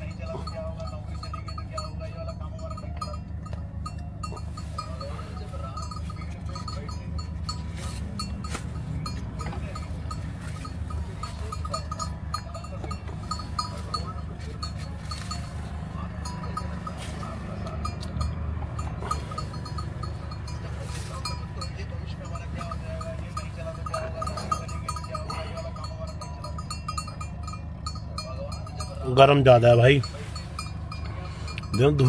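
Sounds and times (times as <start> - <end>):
car engine idling: 0.0 - 32.0
cow chewing: 0.0 - 32.0
light regular ticking: 0.0 - 32.0.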